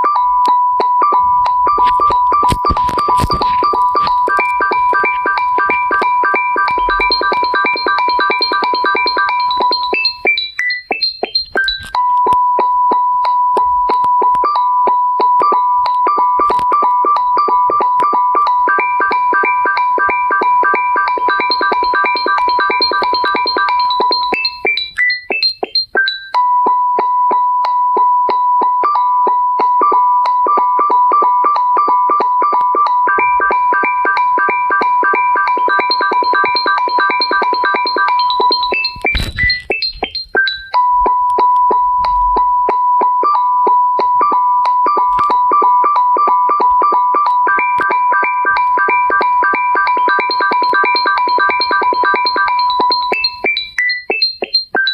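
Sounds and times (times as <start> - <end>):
electronic keyboard ringtone: 0.0 - 54.9.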